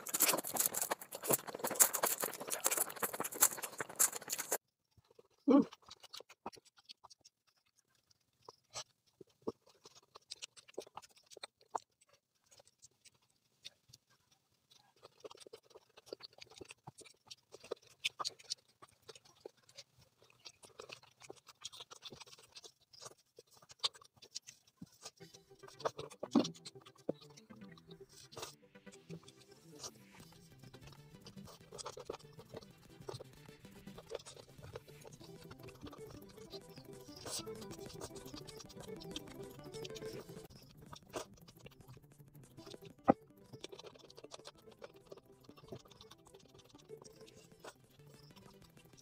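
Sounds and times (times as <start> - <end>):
mouth clicks and lip smacks: 0.0 - 14.0, 14.7 - 28.6, 29.8 - 49.0
chewing: 0.0 - 49.0.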